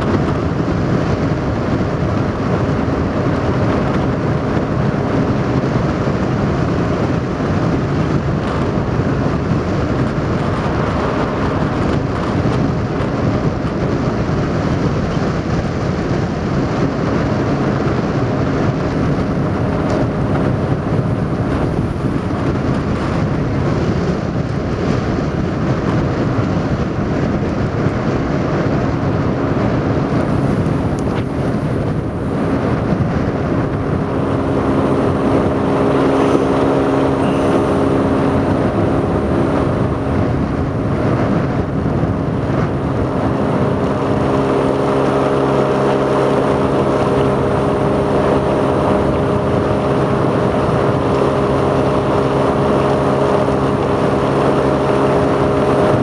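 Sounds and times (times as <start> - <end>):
water noise from boat hull: 0.0 - 56.0
wind buffeting microphone: 0.0 - 56.0.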